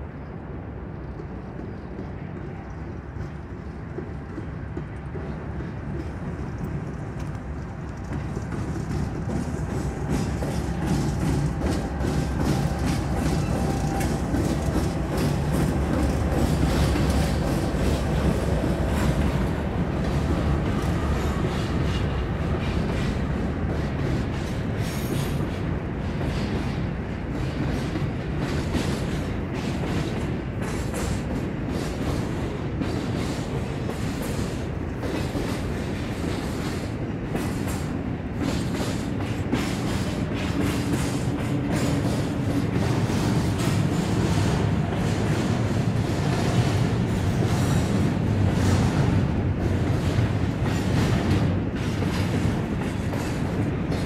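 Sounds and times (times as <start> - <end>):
diesel locomotive engine: 0.0 - 54.0
train wheels clacking on rails: 1.1 - 54.0.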